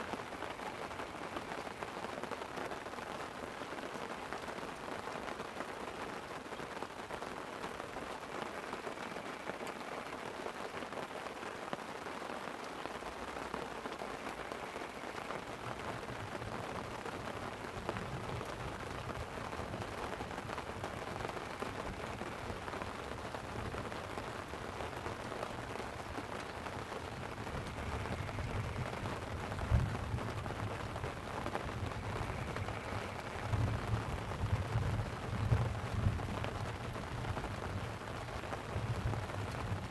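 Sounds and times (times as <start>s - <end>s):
light rain pattering on a tent: 0.0s - 39.9s.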